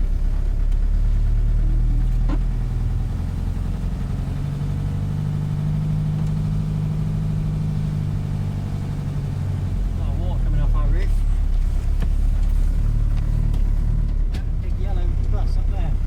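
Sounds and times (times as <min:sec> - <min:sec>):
van engine running: 0:00.0 - 0:16.0.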